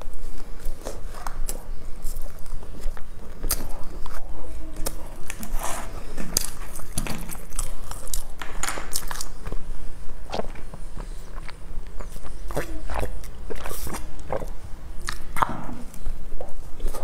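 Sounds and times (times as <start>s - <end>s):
chewing flaky pastry: 0.0s - 17.0s
low steady hum: 0.0s - 17.0s.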